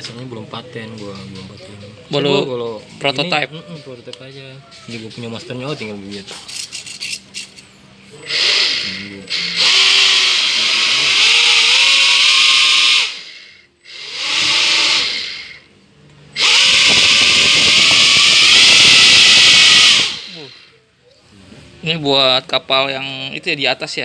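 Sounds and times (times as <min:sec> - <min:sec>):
ducted fan whirring whine: 0:00.0 - 0:24.0.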